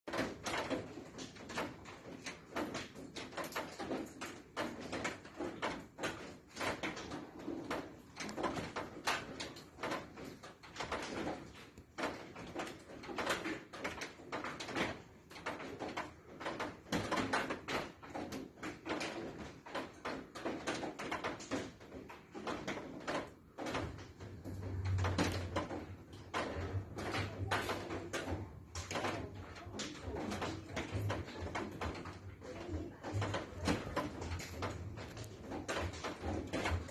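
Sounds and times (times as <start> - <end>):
rapid irregular knocks and thuds: 0.0 - 36.9.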